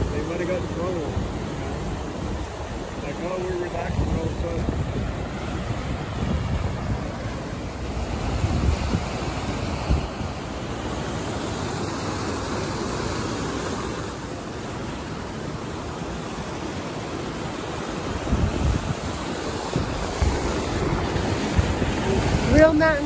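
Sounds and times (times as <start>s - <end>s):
fast-flowing water rushing: 0.0s - 23.0s
wind buffeting microphone: 0.0s - 23.0s.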